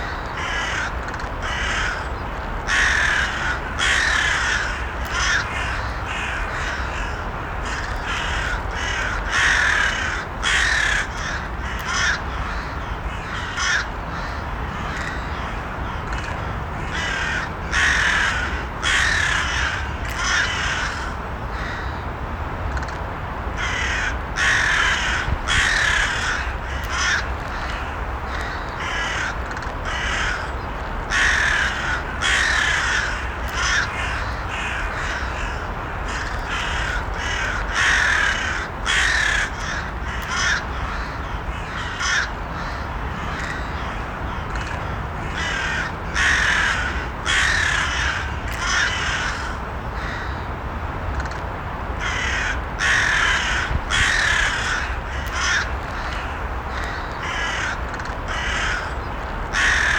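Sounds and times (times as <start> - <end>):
crows cawing: 0.0 - 22.0, 23.6 - 50.4, 52.0 - 59.9.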